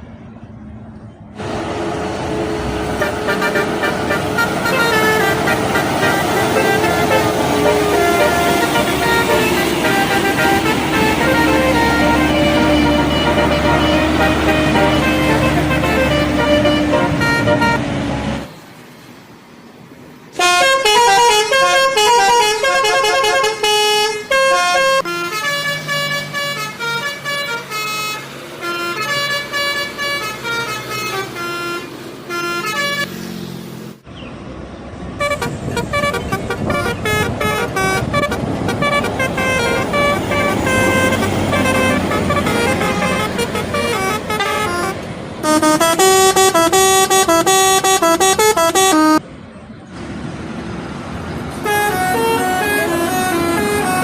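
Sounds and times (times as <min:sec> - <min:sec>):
road noise: 0:00.0 - 0:54.0
bus horns playing melodic tunes: 0:01.4 - 0:18.5, 0:20.3 - 0:33.2, 0:35.2 - 0:49.2, 0:51.5 - 0:54.0.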